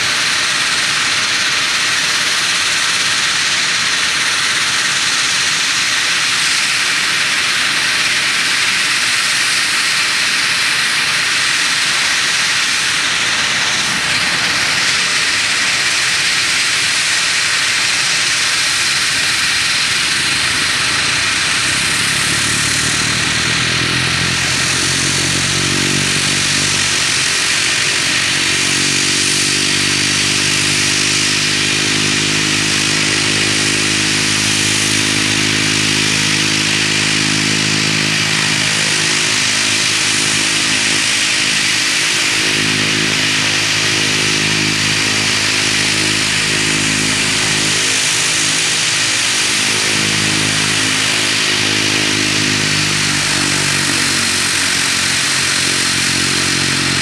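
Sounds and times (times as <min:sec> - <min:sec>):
low propeller drone: 0:00.0 - 0:57.0
turbine whine and hiss: 0:00.0 - 0:57.0.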